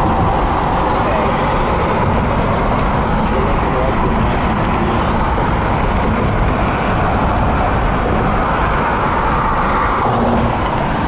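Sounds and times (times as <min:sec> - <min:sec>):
car interior road noise: 0:00.0 - 0:11.0.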